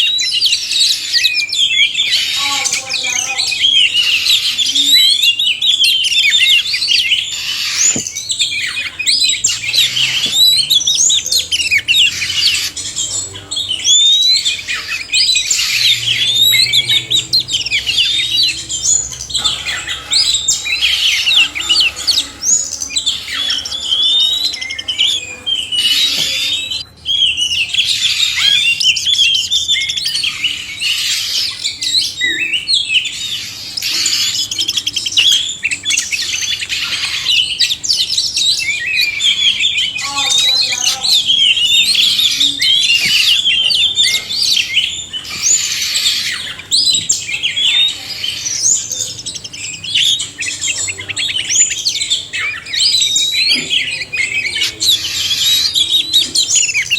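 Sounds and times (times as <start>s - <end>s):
birds whistling and trilling: 0.0s - 56.9s.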